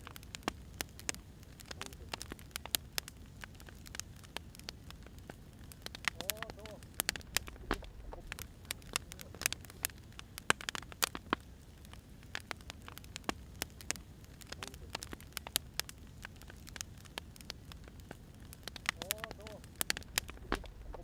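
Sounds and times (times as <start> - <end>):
firewood crackling and popping: 0.0 - 21.0
low steady fire hiss: 0.0 - 21.0.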